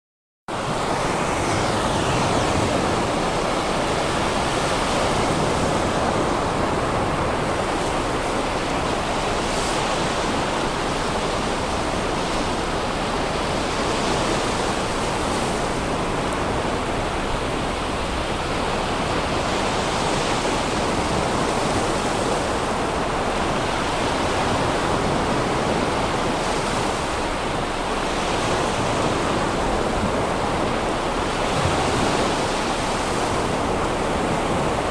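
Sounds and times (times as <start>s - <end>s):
surf breaking on beach: 0.5s - 34.9s.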